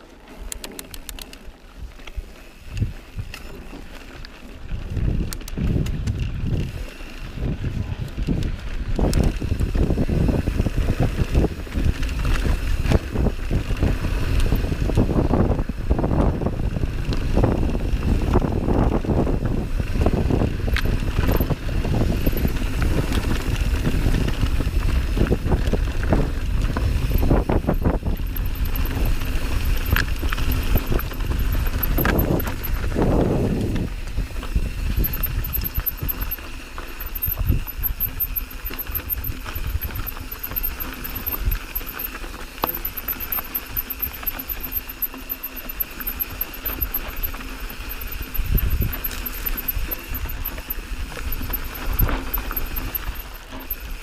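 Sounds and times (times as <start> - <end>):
bike rattling and knocking: 0.0 - 54.0
bike tyres rolling over gravel: 0.0 - 54.0.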